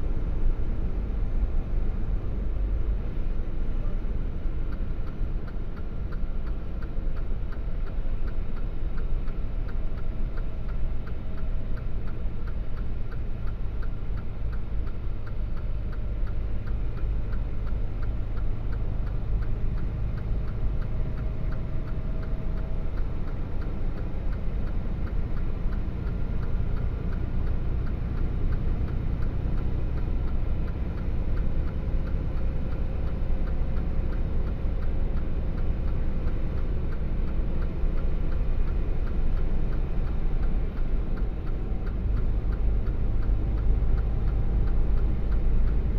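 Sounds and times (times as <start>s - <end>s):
truck engine and road rumble: 0.0s - 45.9s
faint regular ticking: 3.0s - 45.9s.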